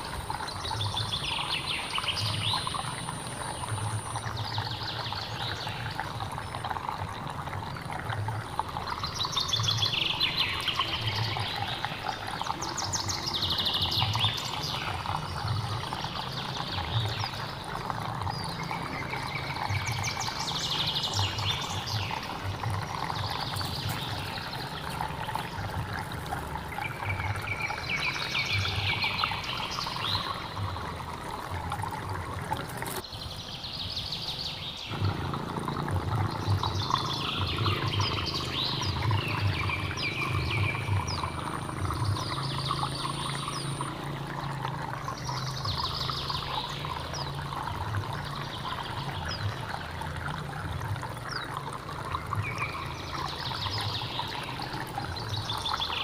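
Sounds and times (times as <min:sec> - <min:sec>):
songbird singing: 0:00.0 - 0:56.0
stream water flowing: 0:00.0 - 0:56.0.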